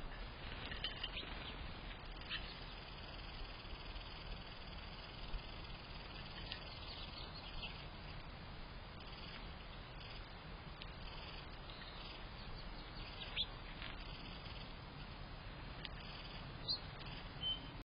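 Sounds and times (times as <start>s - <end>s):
songbirds chirping: 0.0s - 17.8s
steady background hiss: 0.0s - 17.8s.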